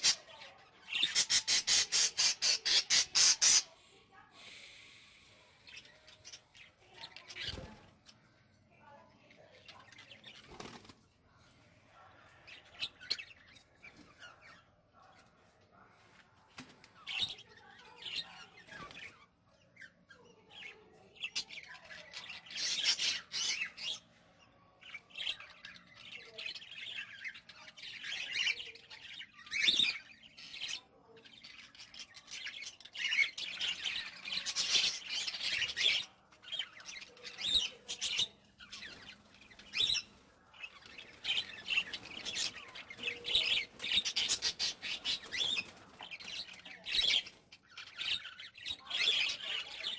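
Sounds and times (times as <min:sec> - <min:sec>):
parrots chattering and squawking: 0:00.0 - 0:08.4, 0:12.2 - 0:15.4, 0:16.8 - 0:49.9.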